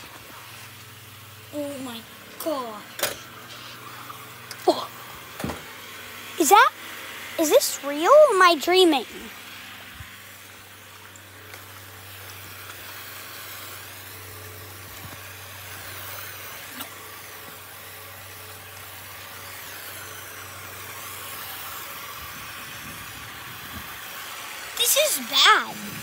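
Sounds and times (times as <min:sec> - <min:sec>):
hose spraying water on paving: 0:00.0 - 0:26.0
steady low hum: 0:00.0 - 0:26.0.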